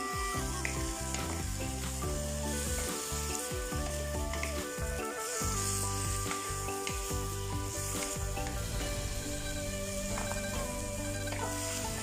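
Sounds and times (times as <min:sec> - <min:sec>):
background music: 0:00.0 - 0:12.0
food sizzling in a pan: 0:00.0 - 0:12.0.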